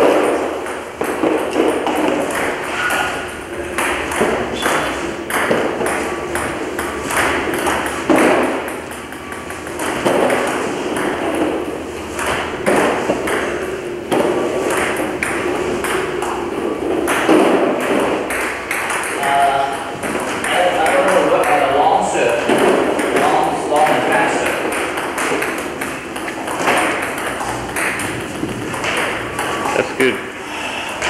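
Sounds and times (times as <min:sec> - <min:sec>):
ping-pong ball clicking: 0:03.2 - 0:29.8.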